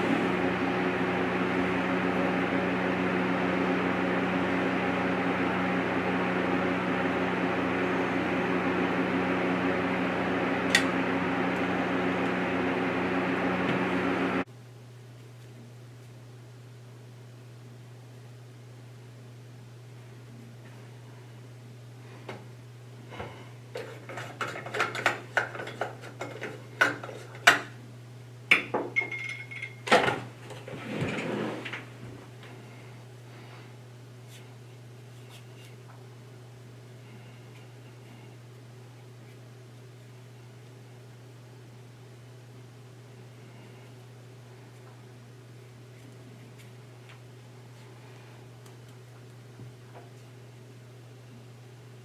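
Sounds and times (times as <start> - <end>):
mechanical hum: 0.0 - 52.0.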